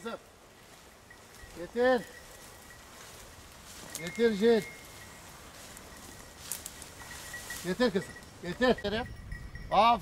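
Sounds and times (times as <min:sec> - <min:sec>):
faint outdoor background noise: 0:00.0 - 0:10.0.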